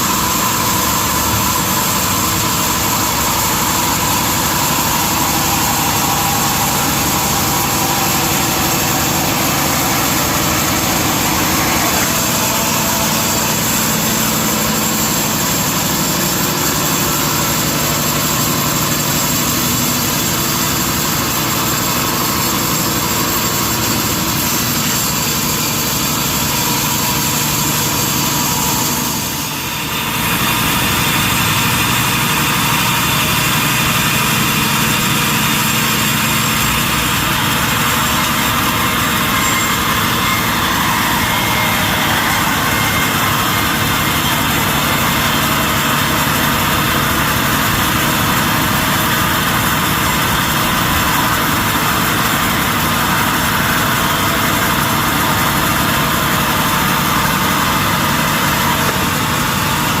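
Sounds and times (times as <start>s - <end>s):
sawmill machinery running: 0.0s - 60.0s.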